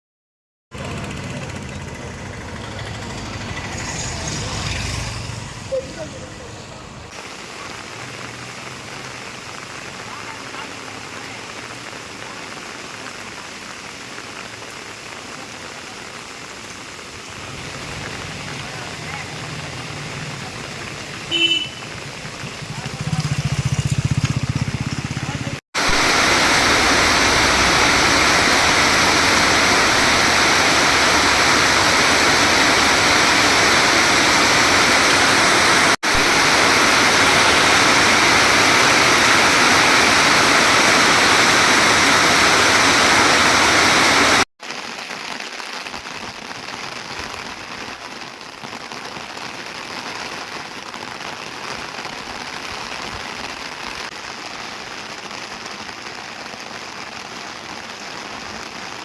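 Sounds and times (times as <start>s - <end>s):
heavy rain pouring: 0.8s - 59.0s
light rain: 0.8s - 59.0s.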